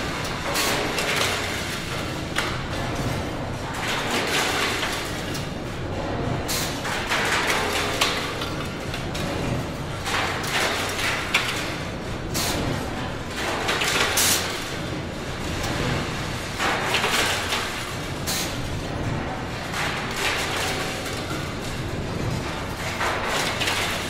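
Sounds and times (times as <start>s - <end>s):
machinery hum and rumble: 0.0s - 24.0s.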